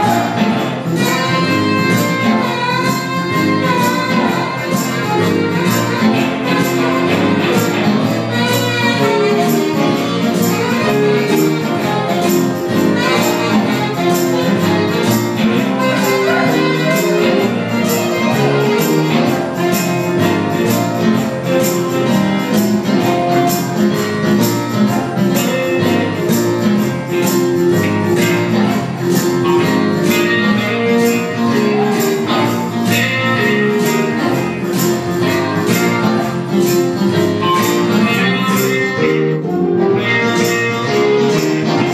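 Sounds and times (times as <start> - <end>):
electric guitar: 0.0 - 41.9
live dance band playing: 0.0 - 41.9
saxophone: 0.0 - 41.9.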